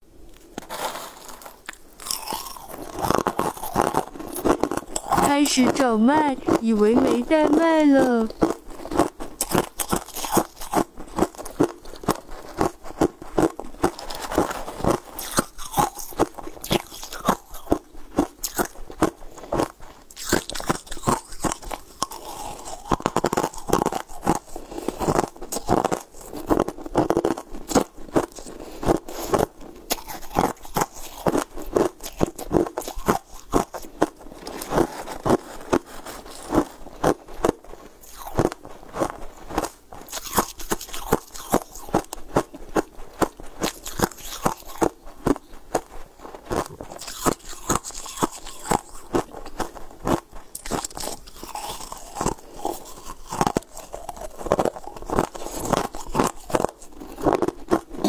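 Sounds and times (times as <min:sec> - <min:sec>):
crunching and chewing ice: 0:00.3 - 0:58.0.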